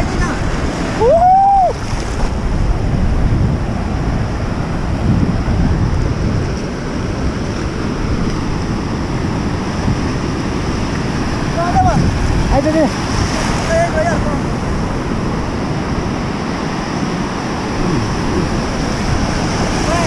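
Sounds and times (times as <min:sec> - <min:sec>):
ocean surf in shallow water: 0:00.0 - 0:20.0
wind buffeting microphone: 0:00.0 - 0:20.0.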